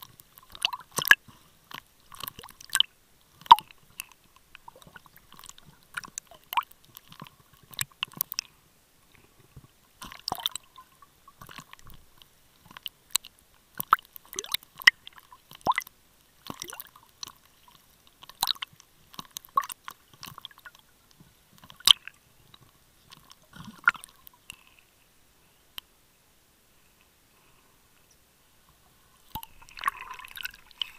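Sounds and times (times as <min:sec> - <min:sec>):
underwater bubbles clicking and popping: 0:00.0 - 0:24.8, 0:29.2 - 0:30.9.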